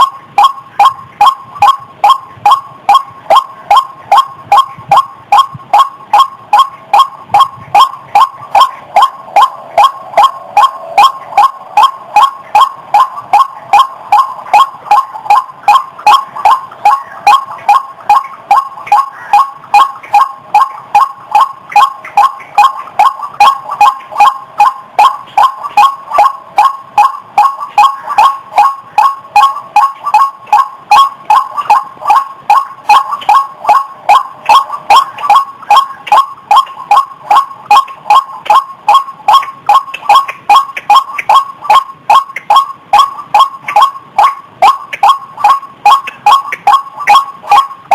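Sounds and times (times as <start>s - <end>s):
waterhen calling: 0.0s - 47.9s.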